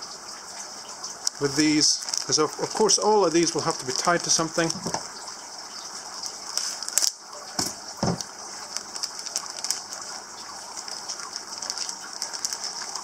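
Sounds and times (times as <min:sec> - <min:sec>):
plastic bag crinkling: 0:01.2 - 0:05.1, 0:06.2 - 0:13.0.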